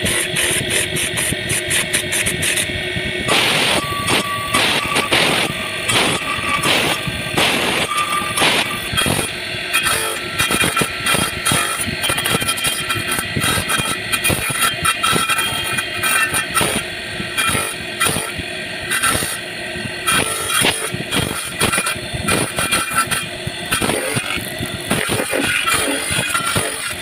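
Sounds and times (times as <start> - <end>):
circular saw cutting wood: 0.0 - 27.0.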